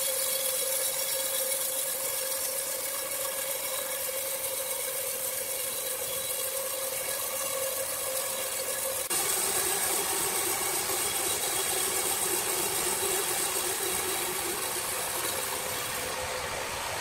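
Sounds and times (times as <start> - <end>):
band saw cutting log: 0.0 - 17.0.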